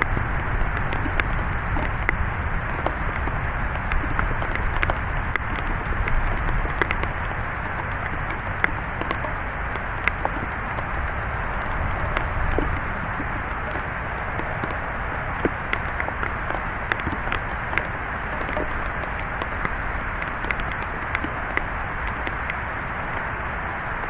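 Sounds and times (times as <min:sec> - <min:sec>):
rain hissing: 0:00.0 - 0:24.0
raindrops ticking on surfaces: 0:00.0 - 0:24.0.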